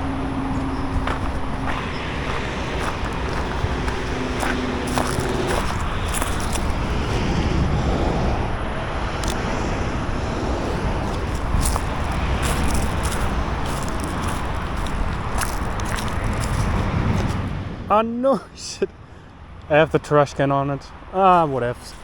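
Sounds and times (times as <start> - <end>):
low outdoor rumble: 0.0 - 20.2.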